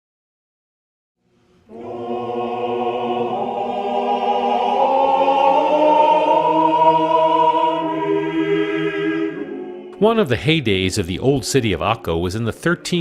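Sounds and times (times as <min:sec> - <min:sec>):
choir holding long chords: 0:01.6 - 0:13.0.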